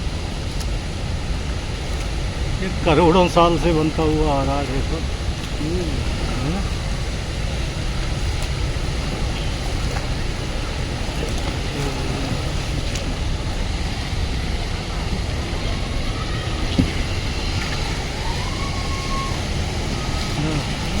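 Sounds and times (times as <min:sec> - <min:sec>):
waterfall and river rushing: 0:00.0 - 0:21.0.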